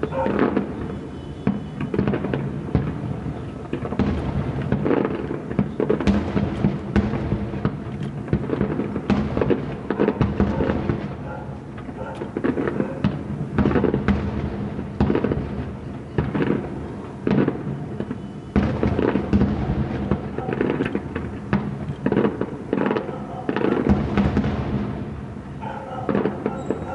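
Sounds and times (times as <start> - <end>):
fireworks bursting: 0.0 - 26.9.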